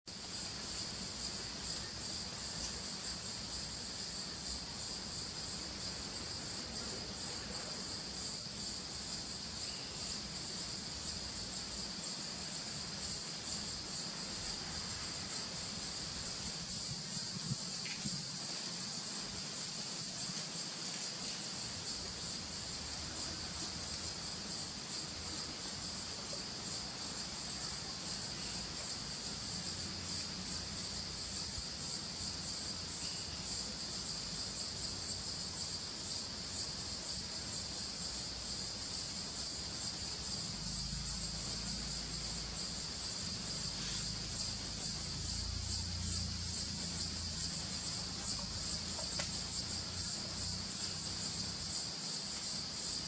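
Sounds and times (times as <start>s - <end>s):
insects buzzing: 0.1s - 53.0s.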